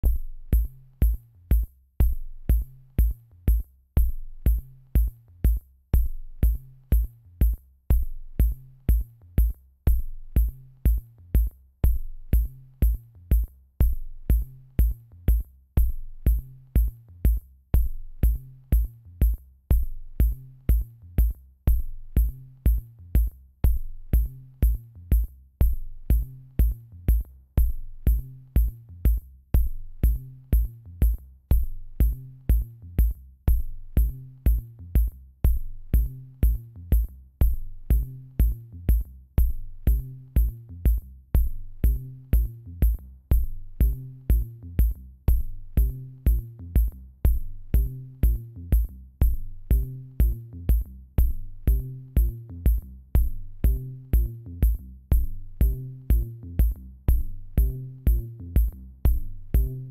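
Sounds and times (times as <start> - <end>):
electronic music with drum machine: 0.0 - 59.9.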